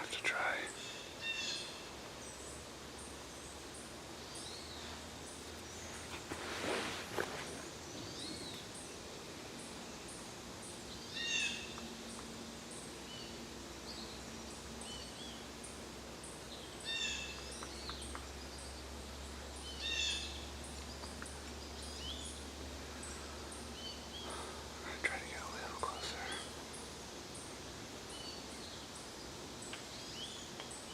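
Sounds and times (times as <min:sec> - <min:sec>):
soft bird chirps: 0:00.0 - 0:30.9.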